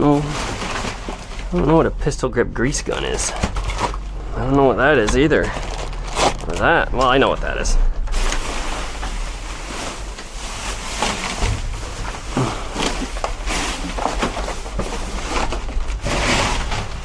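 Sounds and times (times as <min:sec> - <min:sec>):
objects knocking and clattering: 0:00.0 - 0:01.8, 0:02.8 - 0:17.0
low steady rumble: 0:00.0 - 0:17.0.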